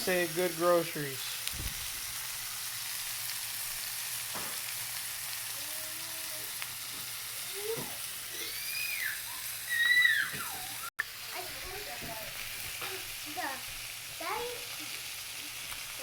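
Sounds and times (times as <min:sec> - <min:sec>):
steaks sizzling on a griddle: 0:00.0 - 0:16.0.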